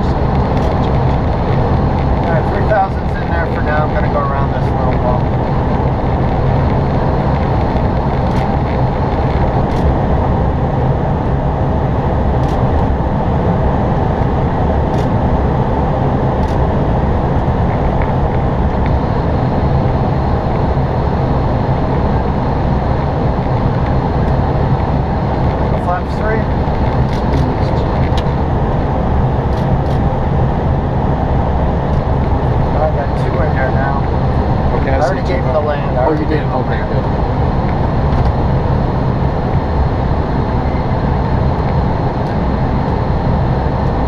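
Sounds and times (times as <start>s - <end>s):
aircraft cockpit rumble and air rush: 0.0s - 44.0s.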